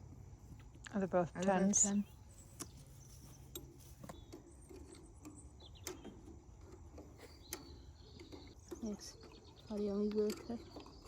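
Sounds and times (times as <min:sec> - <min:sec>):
low steady background: 0:00.0 - 0:11.0.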